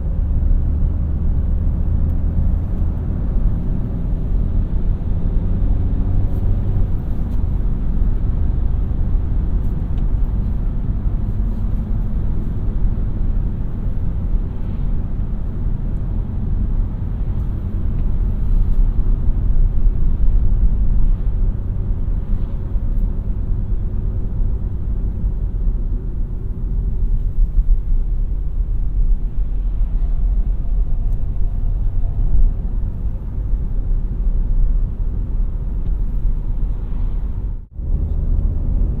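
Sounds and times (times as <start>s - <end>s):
car engine and road noise rumble: 0.0s - 39.0s.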